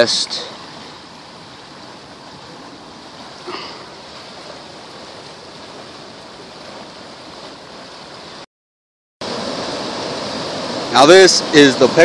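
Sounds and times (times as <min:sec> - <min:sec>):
floodwater rushing: 0:00.0 - 0:08.5, 0:09.2 - 0:12.0.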